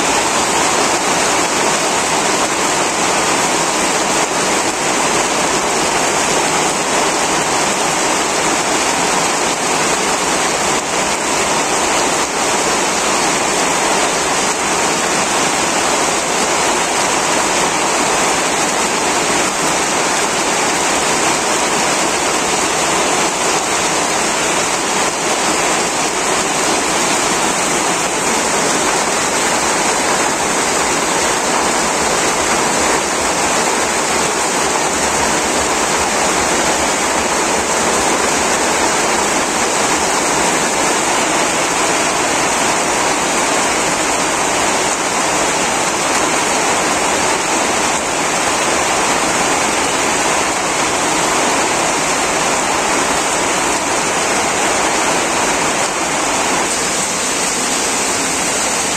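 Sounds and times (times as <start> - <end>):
heavy rain downpour: 0.0 - 58.9
runoff pouring off metal roof: 0.0 - 58.9.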